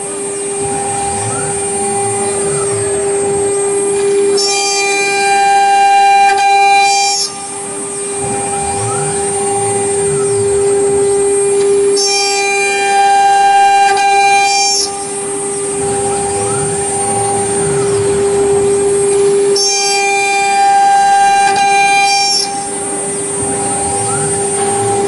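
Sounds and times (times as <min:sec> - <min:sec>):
cnc router spindle whining: 0:00.0 - 0:25.0
end mill cutting plastic: 0:00.0 - 0:25.0.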